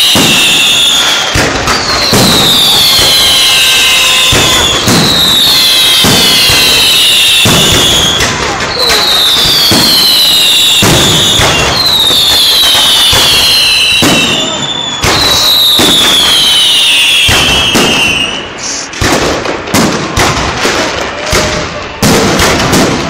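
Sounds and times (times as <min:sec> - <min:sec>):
fireworks whistles sliding down: 0:00.0 - 0:19.0
fireworks bangs and crackle: 0:00.0 - 0:23.0.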